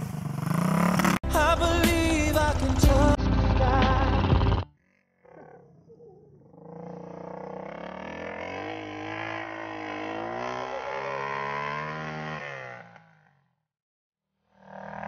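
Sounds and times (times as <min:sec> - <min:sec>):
dirt bike engine revving: 0:00.0 - 0:04.8, 0:06.4 - 0:13.6, 0:14.5 - 0:15.0.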